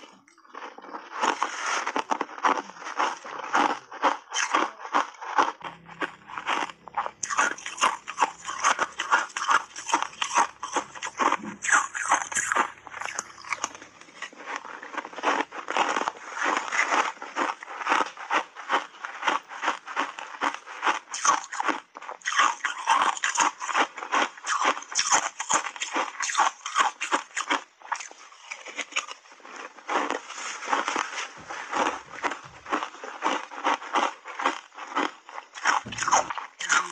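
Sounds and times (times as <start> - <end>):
chewing crunchy shaved ice: 0.0 - 36.9.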